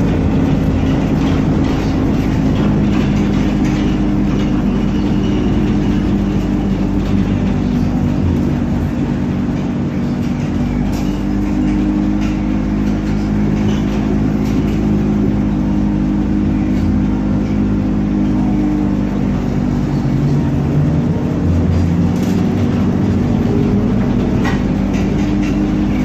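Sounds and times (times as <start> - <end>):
trolleybus electric hum: 0.0 - 26.0.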